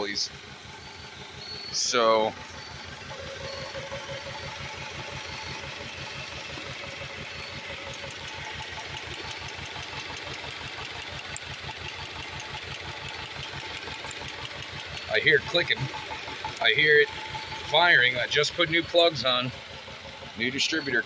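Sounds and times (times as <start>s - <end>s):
car engine idling unevenly: 0.0s - 21.0s.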